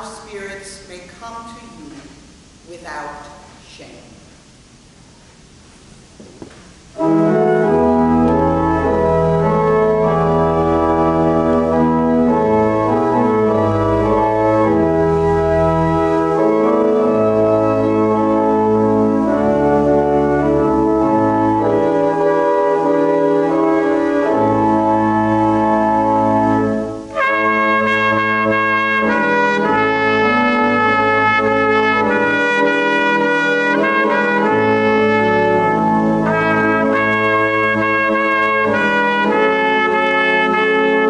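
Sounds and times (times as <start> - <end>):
church pipe organ playing: 6.9 - 41.0.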